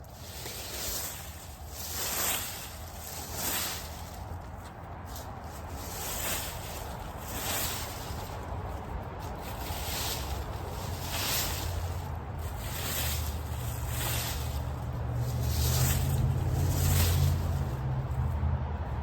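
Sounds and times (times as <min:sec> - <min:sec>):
rake scraping through dry leaves: 0:00.0 - 0:18.4.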